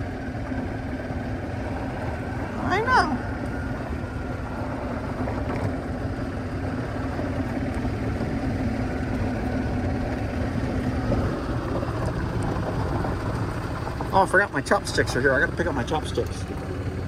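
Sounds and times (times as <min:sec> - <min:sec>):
golf cart running: 0:00.0 - 0:17.0.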